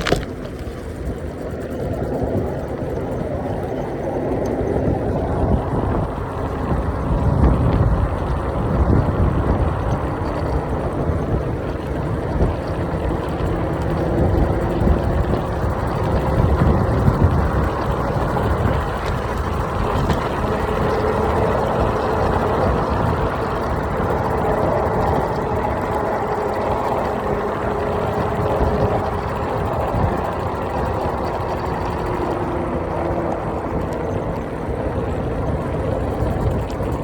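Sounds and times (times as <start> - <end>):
road rumble: 0.0 - 37.0
wind buffeting microphone: 0.0 - 37.0.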